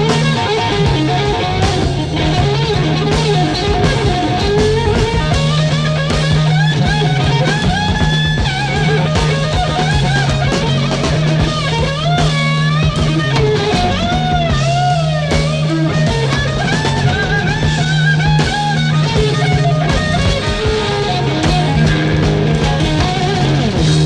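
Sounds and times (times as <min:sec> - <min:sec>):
drum kit: 0:00.0 - 0:24.0
lead guitar solo with bent notes: 0:00.0 - 0:24.0
low bass notes: 0:00.0 - 0:24.0.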